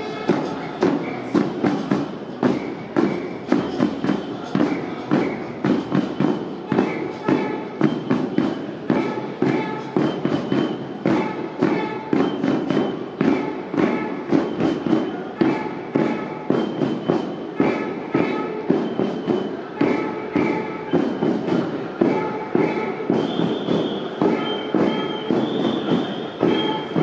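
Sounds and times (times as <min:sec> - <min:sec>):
drums beaten in marching rhythm: 0:00.0 - 0:27.0.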